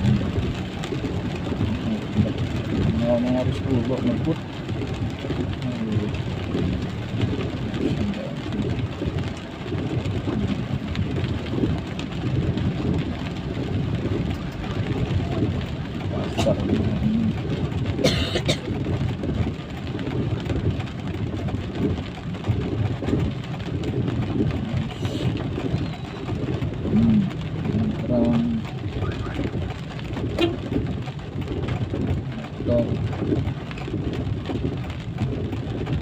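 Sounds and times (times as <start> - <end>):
low rumble: 0.0 - 36.0
vehicle road noise in rain: 0.0 - 36.0.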